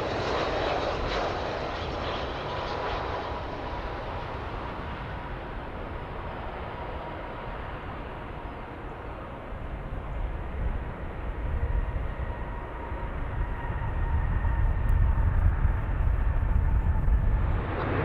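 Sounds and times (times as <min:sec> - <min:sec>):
faint jet engine whine: 0:00.0 - 0:18.0
jet engines rumbling: 0:00.0 - 0:18.0.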